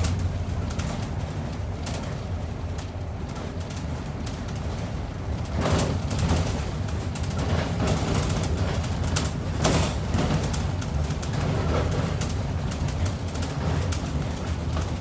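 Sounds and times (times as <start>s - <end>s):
diesel bus engine droning: 0.0s - 15.0s.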